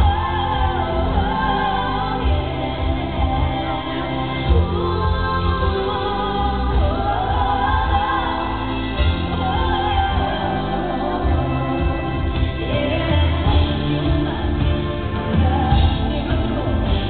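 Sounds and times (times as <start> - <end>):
instrumental backing: 0.0 - 17.0
woman singing a slow ballad: 0.0 - 17.0.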